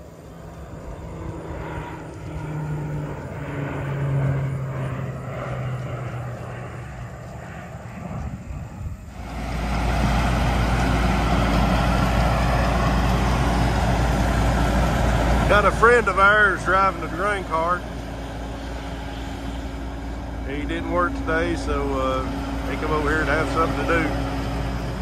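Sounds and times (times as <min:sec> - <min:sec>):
diesel engine running steadily: 0:00.0 - 0:25.0
propeller plane flying over: 0:00.0 - 0:25.0.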